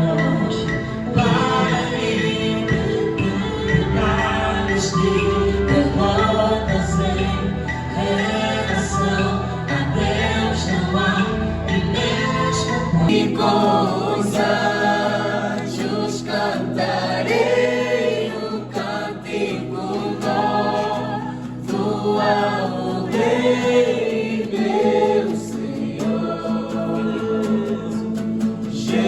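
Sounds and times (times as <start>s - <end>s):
gospel choir singing: 0.0s - 29.0s.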